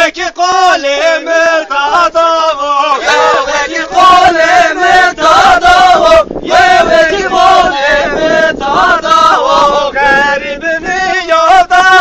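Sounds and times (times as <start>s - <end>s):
men chanting a song: 0.0s - 12.0s.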